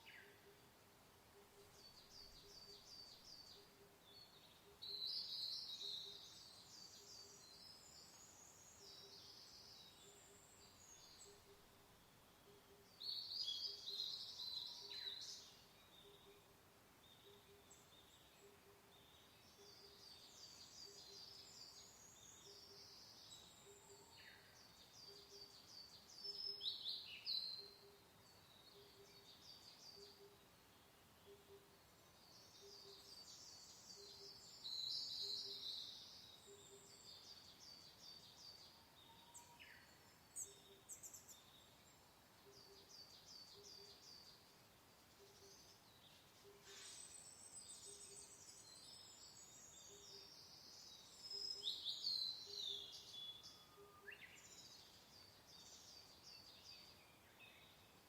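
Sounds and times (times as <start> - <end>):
faint soft hiss: 0.0 - 58.0
songbirds singing: 0.0 - 58.0.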